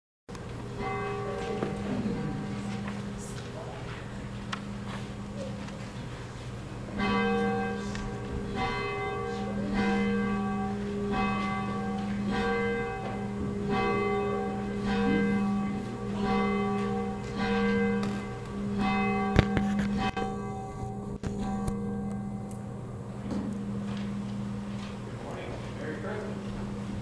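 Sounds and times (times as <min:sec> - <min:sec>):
church bell ringing: 0:00.4 - 0:27.0.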